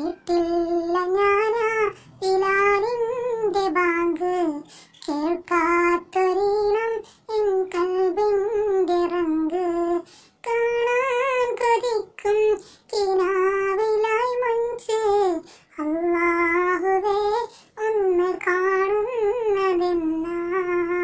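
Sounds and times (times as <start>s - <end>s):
solo high voice singing: 0.0s - 21.0s.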